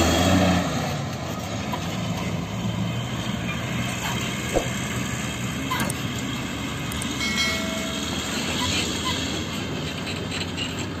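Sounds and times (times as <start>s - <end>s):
diesel lorry engine rumble: 0.0s - 11.0s
road noise: 0.0s - 11.0s.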